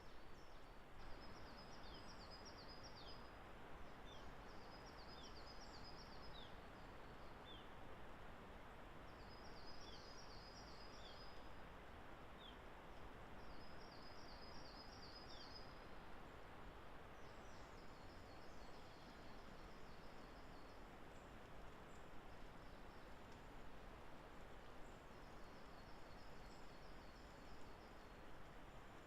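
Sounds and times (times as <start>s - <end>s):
songbird singing: 0.0s - 7.8s, 9.1s - 11.6s, 13.4s - 16.0s, 17.1s - 23.8s, 24.4s - 29.0s
woodland ambience hiss: 0.0s - 29.0s.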